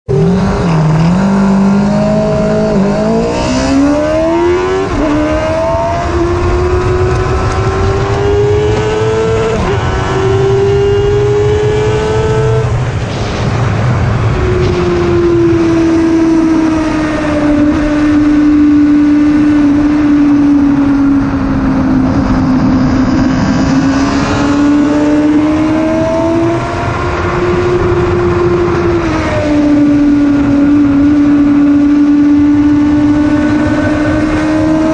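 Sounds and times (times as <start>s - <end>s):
motorbike engine at high revs: 0.0s - 13.4s, 14.2s - 34.9s
wind rushing over camera: 0.1s - 34.9s.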